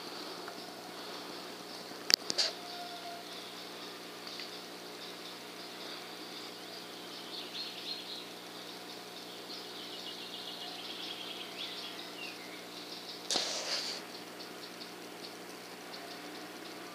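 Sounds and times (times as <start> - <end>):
steady background hum: 0.0 - 16.9
faint bird chirps: 0.2 - 16.9.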